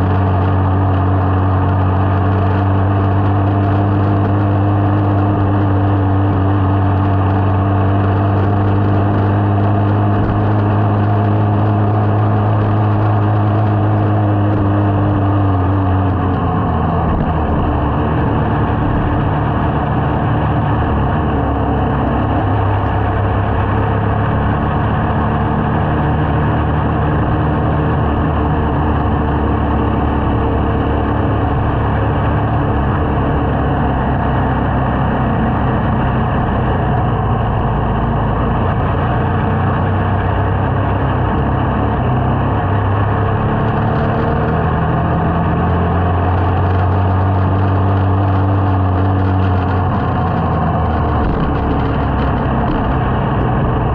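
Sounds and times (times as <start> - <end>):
small motorcycle engine running: 0.0 - 53.9
wind and road noise: 0.0 - 53.9.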